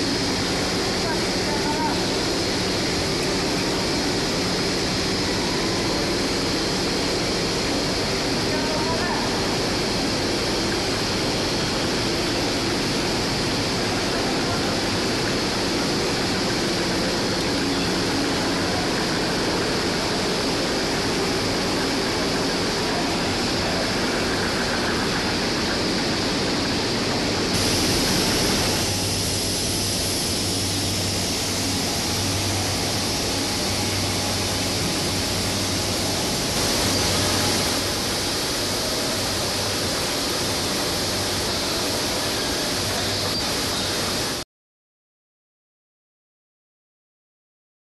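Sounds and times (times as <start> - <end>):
rushing noise of processing line: 0.0 - 44.4.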